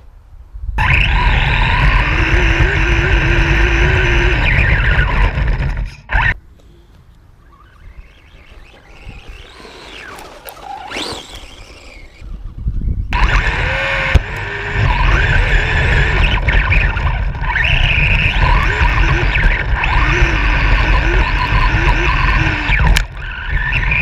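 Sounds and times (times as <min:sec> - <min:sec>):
vehicle motor whining: 0:00.8 - 0:24.0.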